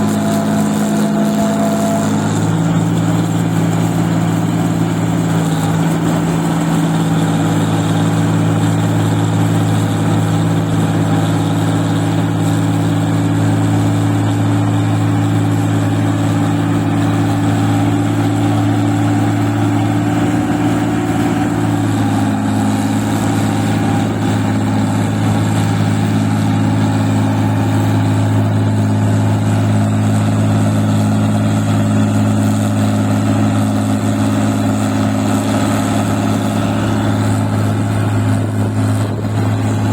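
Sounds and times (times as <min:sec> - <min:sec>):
machine engine running under load: 0:00.0 - 0:39.9.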